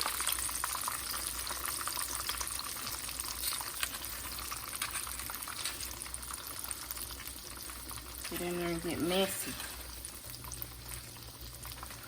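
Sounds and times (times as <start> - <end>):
food frying in hot oil: 0.0 - 12.0
oil popping and crackling: 0.0 - 12.0.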